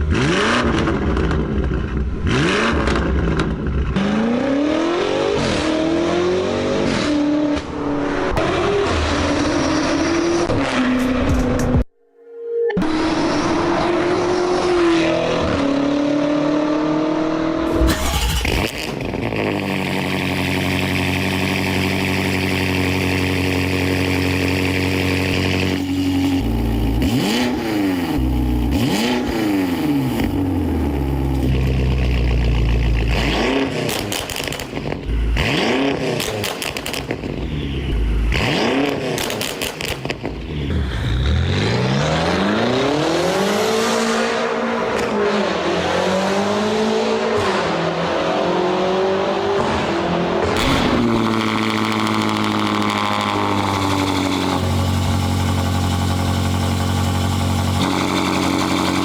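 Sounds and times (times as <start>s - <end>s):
car engine revving: 0.0s - 11.9s, 12.8s - 59.0s.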